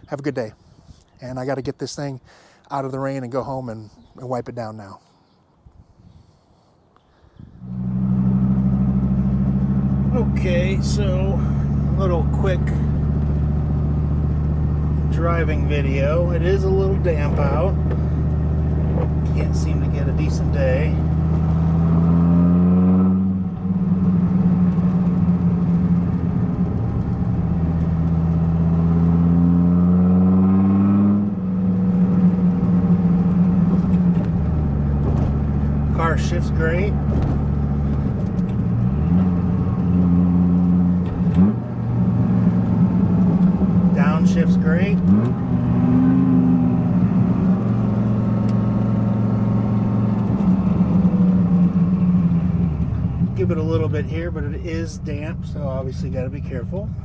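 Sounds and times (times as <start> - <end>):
car engine accelerating: 7.6 - 57.0.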